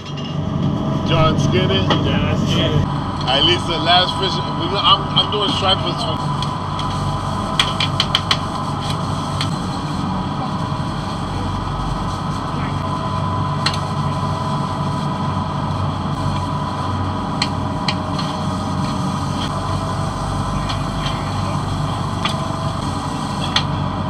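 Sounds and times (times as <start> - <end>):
boat engine idling: 0.0 - 24.0.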